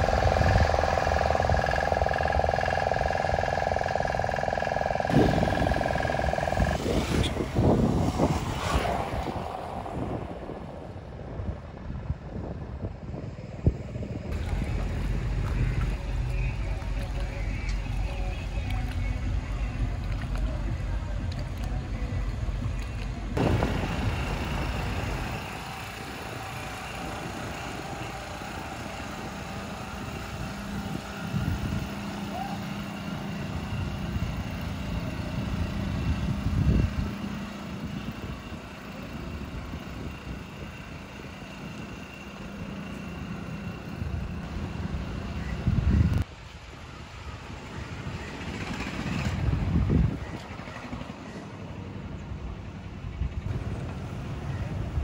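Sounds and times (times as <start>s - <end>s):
vehicle engine running: 0.0s - 46.3s, 47.2s - 55.0s
traffic noise: 0.0s - 55.0s.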